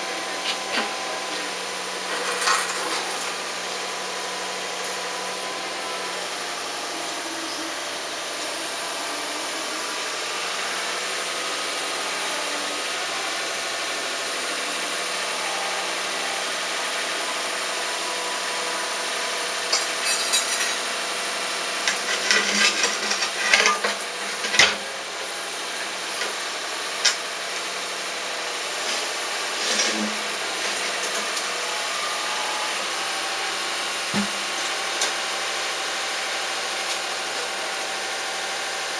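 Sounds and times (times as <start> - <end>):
engine-like hum: 0.0 - 38.9.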